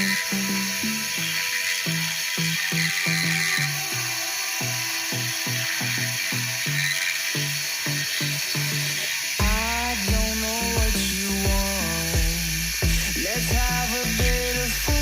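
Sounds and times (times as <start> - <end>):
background music: 0.0 - 15.0
mini lathe whining: 0.0 - 15.0.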